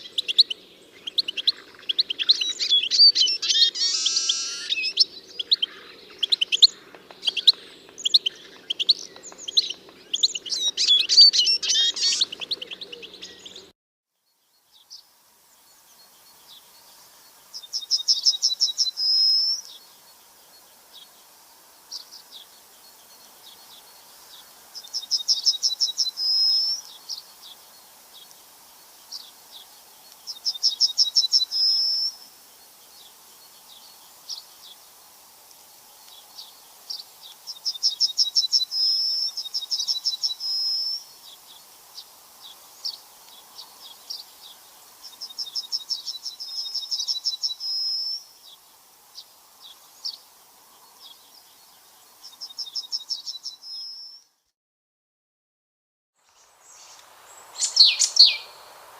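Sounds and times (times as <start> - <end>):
bird song with rapid trill: 0.0 - 34.9, 36.0 - 54.4, 56.2 - 58.7
songbirds chirping: 0.0 - 54.5, 56.2 - 58.9.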